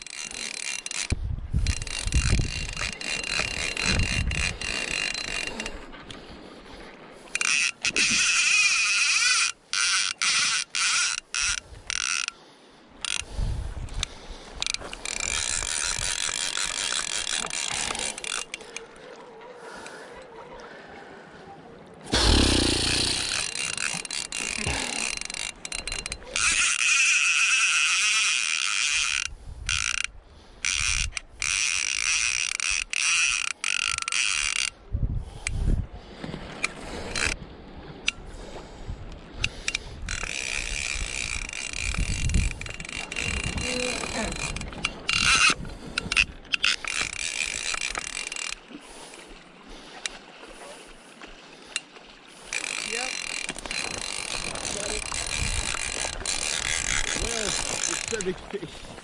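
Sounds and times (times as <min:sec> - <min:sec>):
fly reel drag ratcheting: 0:00.0 - 0:06.2, 0:07.3 - 0:12.4, 0:13.0 - 0:18.8, 0:22.1 - 0:34.8, 0:36.6 - 0:37.4, 0:39.4 - 0:49.3, 0:51.7 - 0:58.9.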